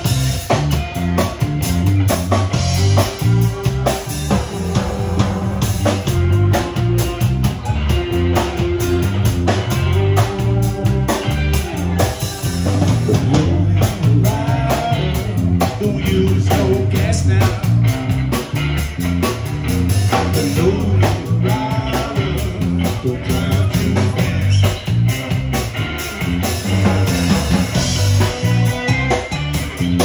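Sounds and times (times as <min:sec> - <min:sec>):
drum beat: 0:00.0 - 0:18.0, 0:23.0 - 0:30.0
bass line: 0:00.0 - 0:30.0
live band playing: 0:00.0 - 0:30.0.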